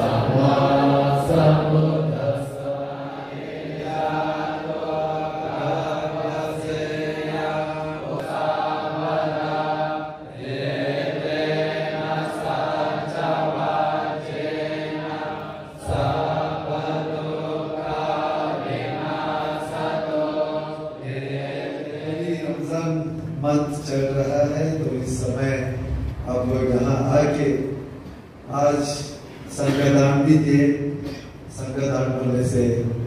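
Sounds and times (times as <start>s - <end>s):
person chanting prayer: 0.0s - 27.8s.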